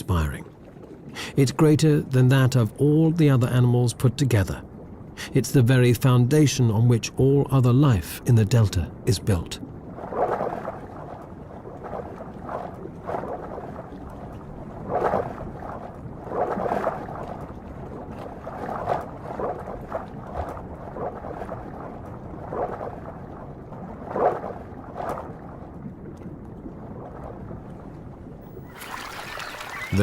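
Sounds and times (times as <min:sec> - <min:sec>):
water lapping and splashing: 0:00.0 - 0:06.1, 0:08.2 - 0:30.0.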